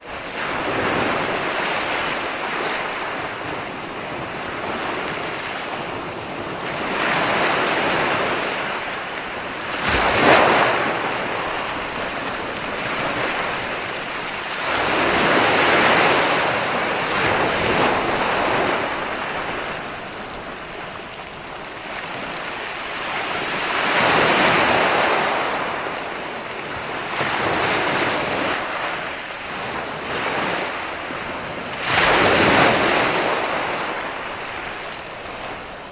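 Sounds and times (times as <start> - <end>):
ocean waves breaking: 0.0 - 35.9.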